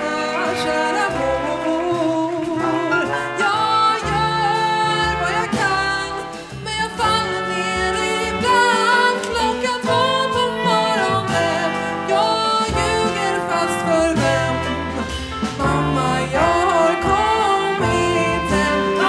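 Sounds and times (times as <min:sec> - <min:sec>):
drums with cymbals: 0:00.0 - 0:19.0
trumpet: 0:00.0 - 0:19.0
upright bass: 0:00.0 - 0:19.0
woman singing: 0:00.0 - 0:19.0.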